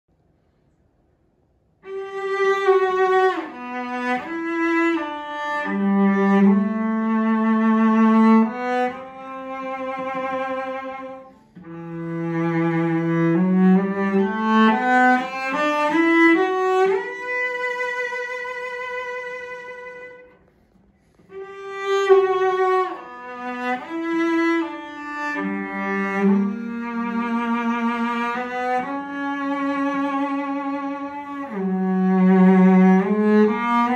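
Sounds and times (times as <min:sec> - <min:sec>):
bowed cello: 0:01.8 - 0:33.9.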